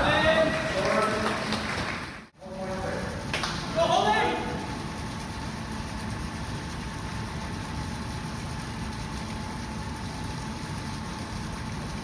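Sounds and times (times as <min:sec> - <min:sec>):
indoor pool hall rumble and hiss: 0:00.0 - 0:12.0.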